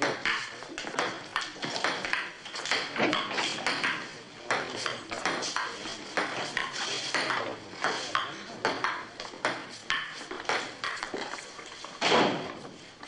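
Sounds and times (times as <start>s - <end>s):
table tennis ball hits: 0.0s - 11.4s.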